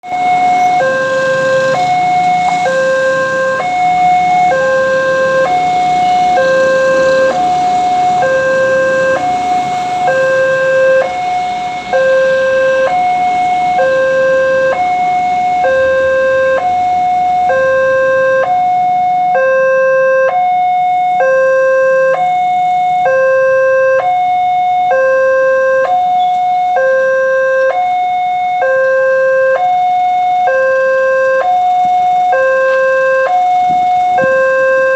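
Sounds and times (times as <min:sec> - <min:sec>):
two-tone level crossing alarm: 0:00.0 - 0:34.9.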